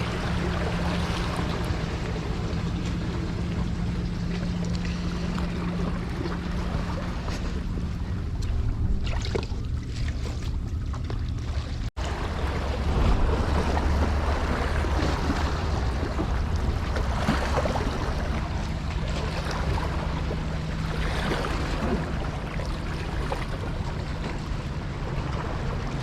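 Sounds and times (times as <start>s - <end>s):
waves washing ashore: 0.0s - 10.7s, 11.5s - 26.0s
wind buffeting microphone: 0.0s - 26.0s.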